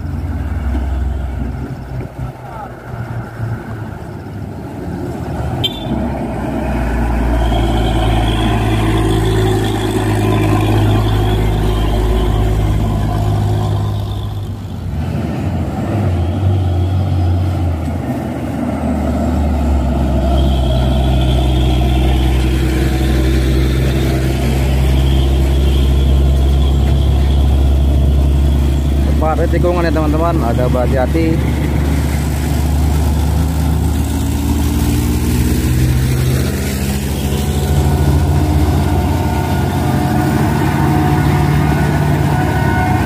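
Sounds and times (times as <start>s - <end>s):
diesel trucks passing: 0.0s - 43.0s.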